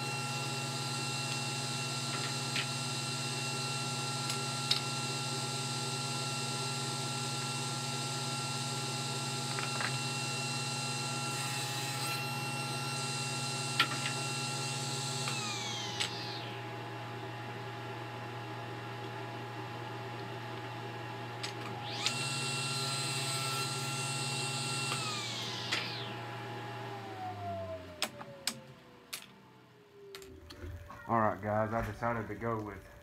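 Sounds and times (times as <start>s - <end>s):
motor winding down: 0.0s - 17.6s, 21.4s - 33.0s
table saw running: 0.0s - 29.0s.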